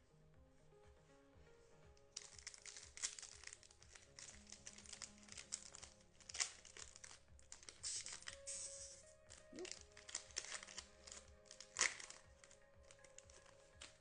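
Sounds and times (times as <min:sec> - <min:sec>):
quiet background music: 0:00.0 - 0:14.0
crinkling card packaging: 0:02.1 - 0:14.0.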